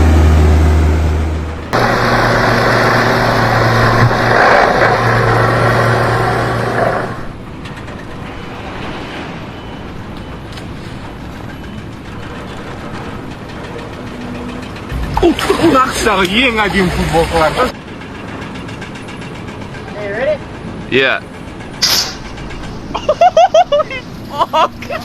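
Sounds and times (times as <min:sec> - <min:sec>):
engine running with steady hum: 0:00.0 - 0:08.5, 0:09.6 - 0:25.0.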